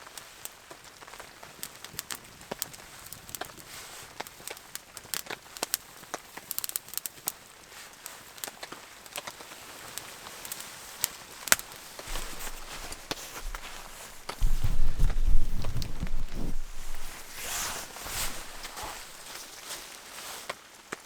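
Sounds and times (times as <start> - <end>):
campfire crackling and popping: 0.2 - 19.6.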